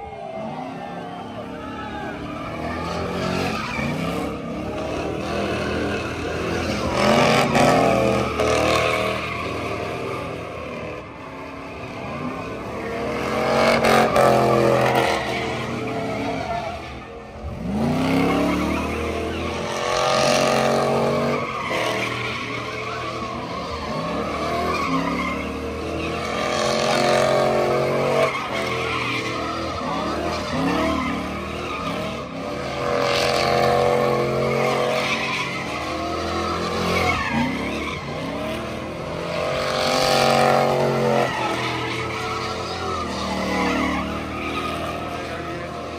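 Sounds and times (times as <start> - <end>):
tires spinning and squealing: 0.0 - 45.9
truck engine revving hard: 2.1 - 45.9.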